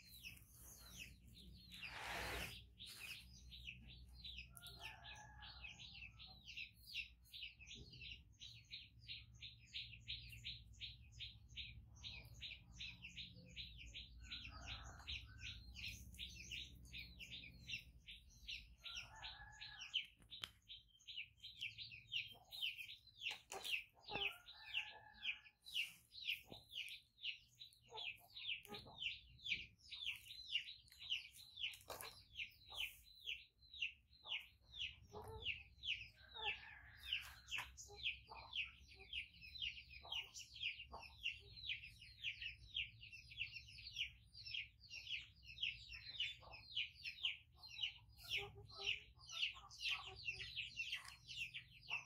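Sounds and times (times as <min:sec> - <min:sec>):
small bird chirping: 0:00.0 - 0:52.0.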